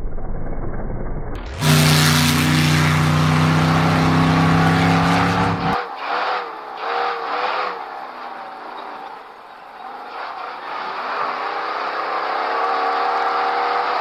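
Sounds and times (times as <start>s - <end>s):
race car engine at high revs: 1.4s - 14.0s.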